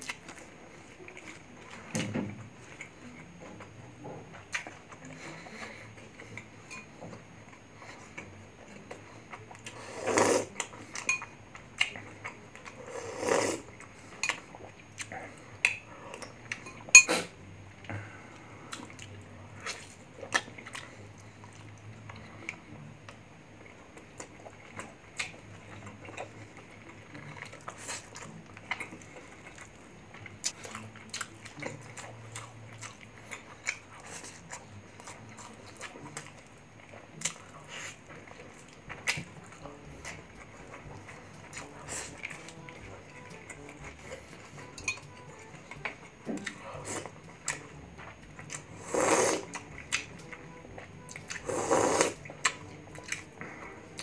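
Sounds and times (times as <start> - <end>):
person chewing with mouth smacks: 0.0 - 2.0, 2.6 - 6.5, 7.4 - 54.0.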